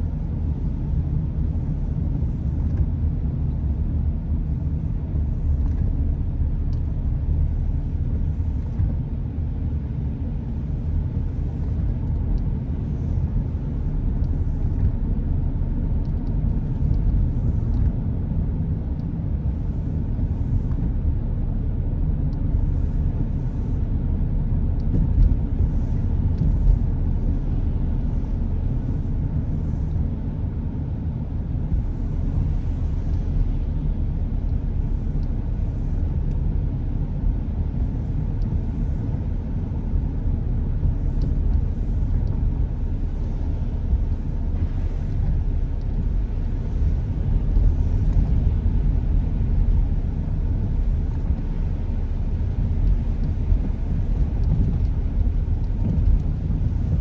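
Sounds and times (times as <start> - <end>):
car tyre and engine rumble: 0.0 - 57.0.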